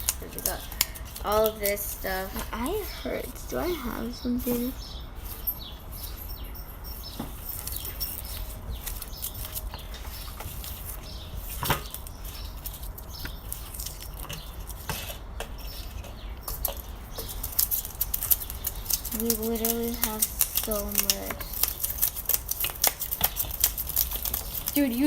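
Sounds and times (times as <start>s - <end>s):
crunchy material crackling: 0.0s - 25.0s
steady low hum: 0.0s - 25.0s.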